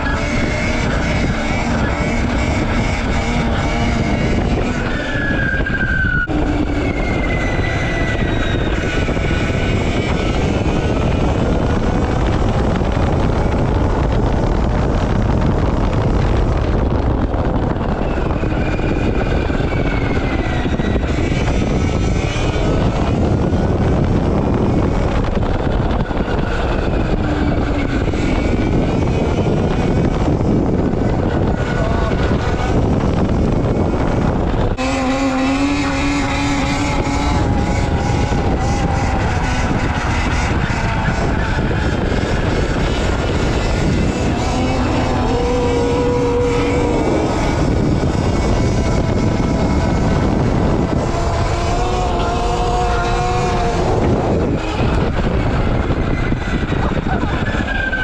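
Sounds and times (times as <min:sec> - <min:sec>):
electric motor whine: 0:00.0 - 0:57.7
wind rush: 0:00.0 - 0:58.0.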